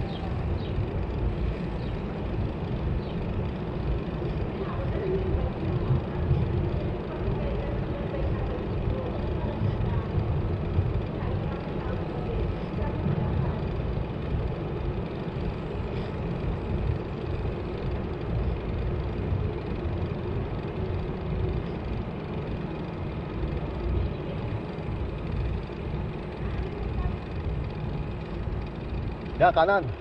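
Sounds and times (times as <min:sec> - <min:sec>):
low road rumble: 0:00.0 - 0:30.0.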